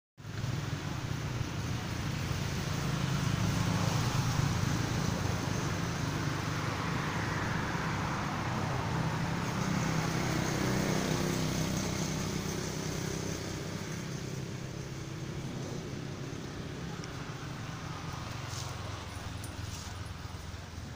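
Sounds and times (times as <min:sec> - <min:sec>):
low engine rumble: 0:00.2 - 0:20.9
road traffic noise: 0:00.2 - 0:20.9.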